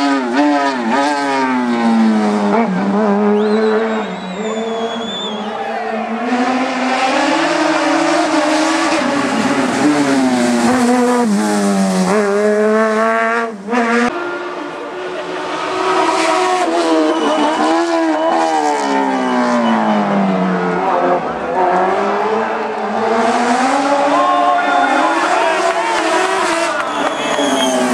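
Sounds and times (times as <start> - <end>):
racing car engine accelerating: 0.0 - 27.9.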